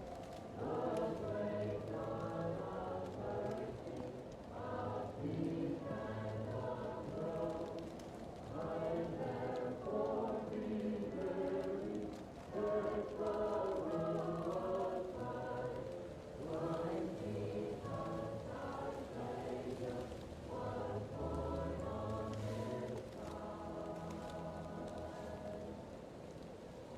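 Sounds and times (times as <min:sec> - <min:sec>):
muffled choir singing: 0:00.0 - 0:26.9
wood fire crackling: 0:00.0 - 0:26.9.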